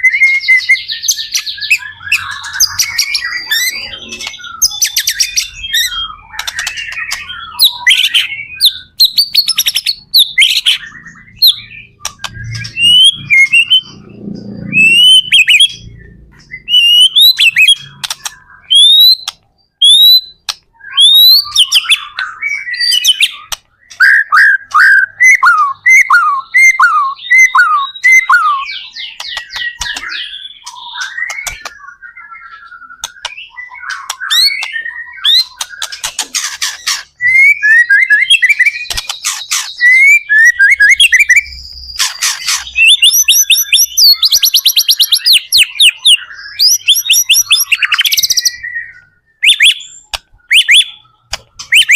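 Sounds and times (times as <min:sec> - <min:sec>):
bird singing whistles and chatter: 0:00.0 - 0:51.9.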